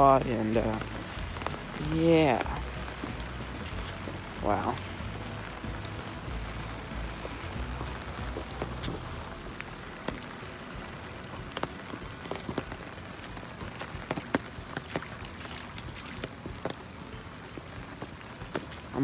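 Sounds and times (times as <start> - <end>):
heavy rain falling: 0.0 - 19.0
raindrops ticking on umbrella: 0.0 - 19.0.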